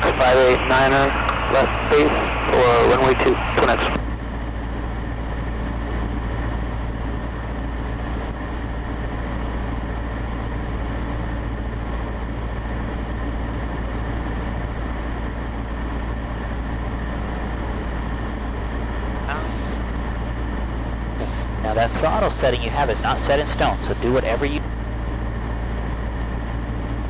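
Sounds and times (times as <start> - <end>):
aircraft engine and propeller droning: 0.0 - 27.0.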